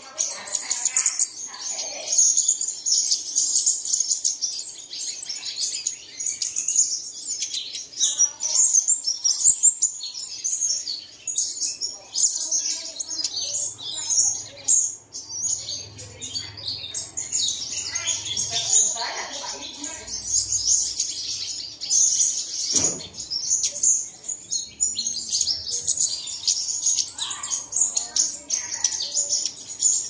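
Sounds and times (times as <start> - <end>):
sunbird chirping: 0.0 - 30.0.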